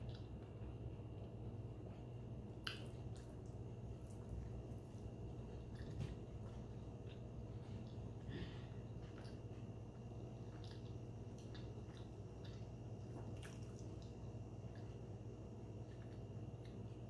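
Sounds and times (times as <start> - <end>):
steady low hum: 0.0 - 17.0
person chewing: 2.6 - 16.9.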